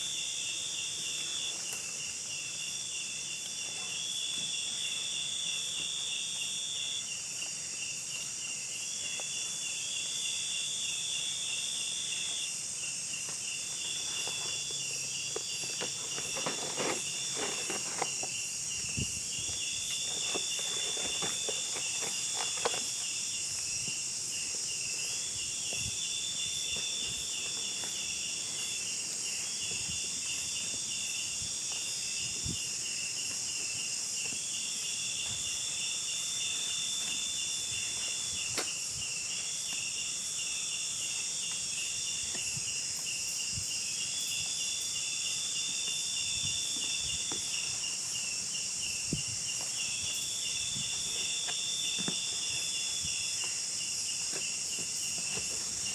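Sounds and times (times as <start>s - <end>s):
insect chirping trill: 0.0s - 55.9s
insects buzzing drone: 0.0s - 55.9s
long insect call: 0.0s - 55.9s.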